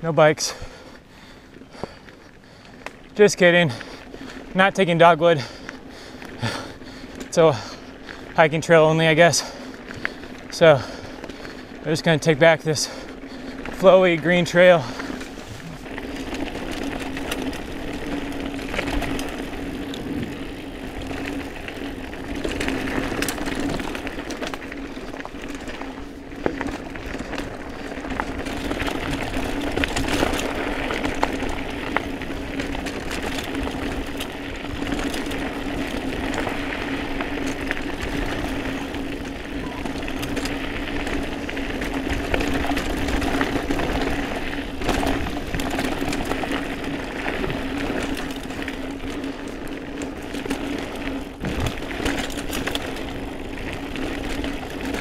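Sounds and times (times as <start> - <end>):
bike rattling: 0.0 - 55.0
bike tyres rolling over dirt: 0.0 - 55.0.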